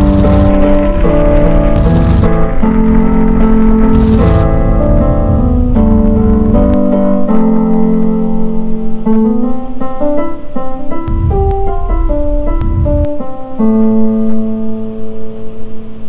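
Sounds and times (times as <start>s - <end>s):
electric piano music: 0.0s - 15.8s.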